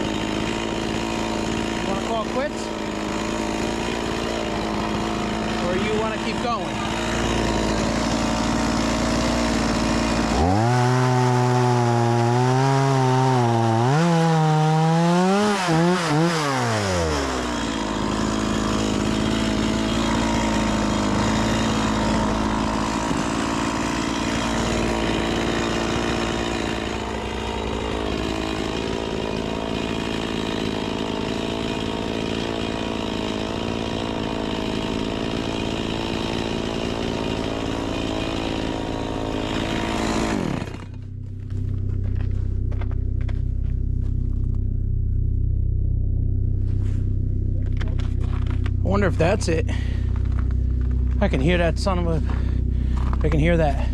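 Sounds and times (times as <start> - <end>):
chainsaw running: 0.0 - 53.9.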